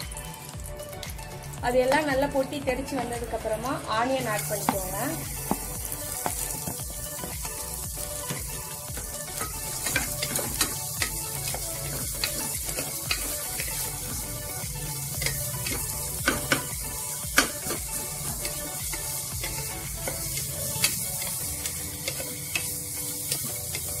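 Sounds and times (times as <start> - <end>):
onions sizzling in a pot: 0.0 - 24.0.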